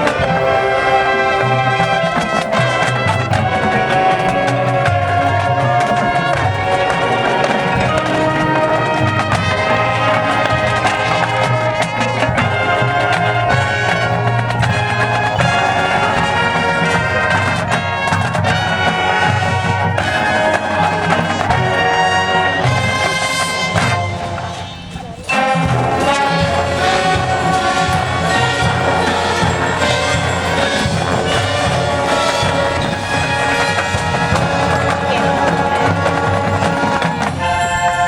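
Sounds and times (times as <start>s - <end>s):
drums: 0.0s - 38.0s
marching band playing: 0.0s - 38.0s
trumpets and trombones: 0.0s - 38.0s.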